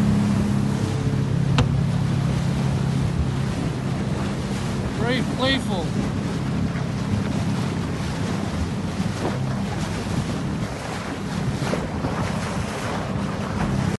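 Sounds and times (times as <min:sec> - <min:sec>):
boat engine humming: 0:00.0 - 0:14.0
water splashing around boat: 0:00.0 - 0:14.0
wind buffeting microphone: 0:00.0 - 0:14.0.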